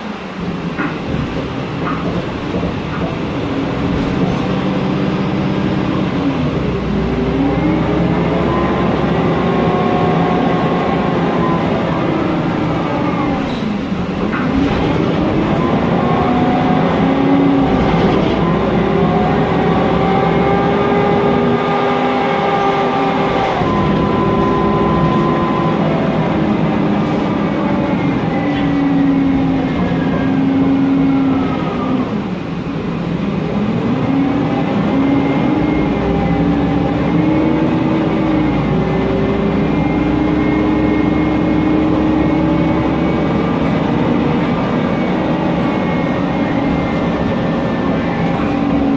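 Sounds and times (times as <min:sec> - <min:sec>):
bus engine and gearbox whining: 0:00.0 - 0:48.9
cooling fan noise: 0:00.0 - 0:48.9.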